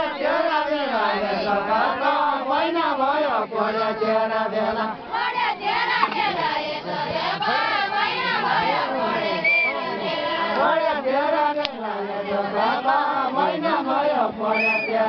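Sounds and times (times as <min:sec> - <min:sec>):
group of voices singing folk song: 0:00.0 - 0:15.0.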